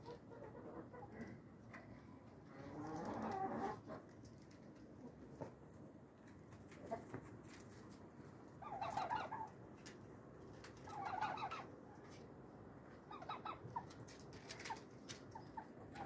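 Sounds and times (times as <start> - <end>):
chickens clucking: 0.0 - 5.7, 6.6 - 10.0, 10.6 - 12.2, 12.9 - 16.0.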